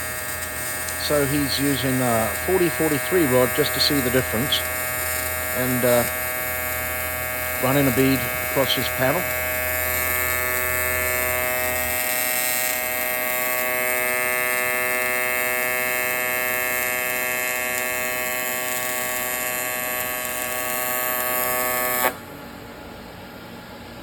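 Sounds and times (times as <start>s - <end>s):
welding arc buzzing: 0.0s - 22.2s.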